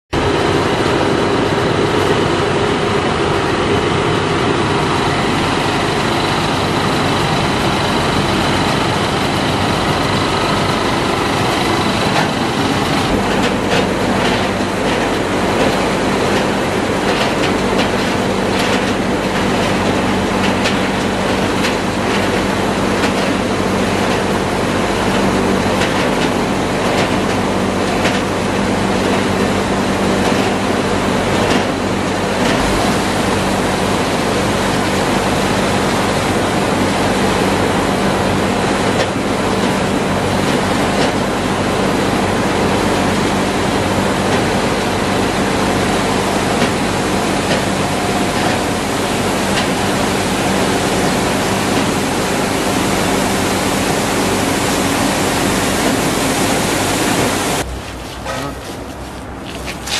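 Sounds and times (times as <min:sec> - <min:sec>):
deep steady hum: 0:00.2 - 0:59.4
crusher and conveyor machinery: 0:00.2 - 0:59.9.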